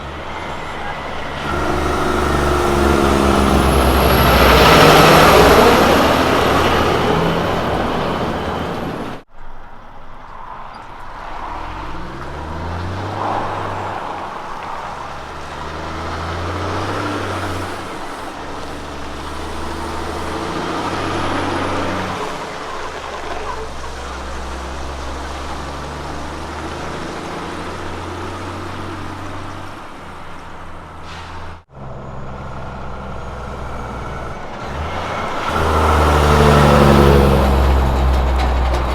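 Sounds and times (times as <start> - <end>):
diesel truck engine under load: 0.0 - 38.9
road noise: 0.0 - 38.9.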